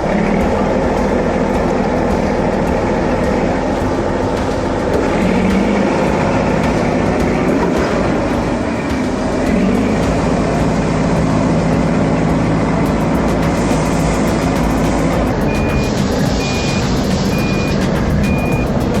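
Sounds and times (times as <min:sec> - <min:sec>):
construction vehicle engine drone: 0:00.0 - 0:19.0.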